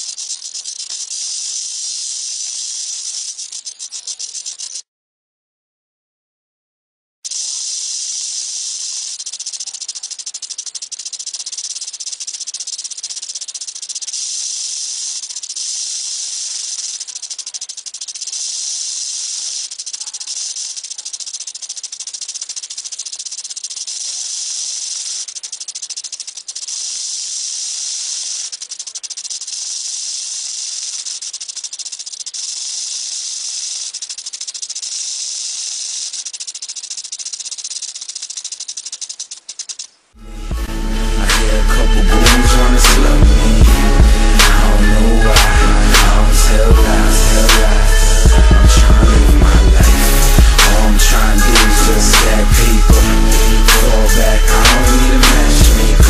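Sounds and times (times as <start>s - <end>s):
rattlesnake tail rattle buzzing: 0.0s - 4.8s, 7.3s - 56.0s.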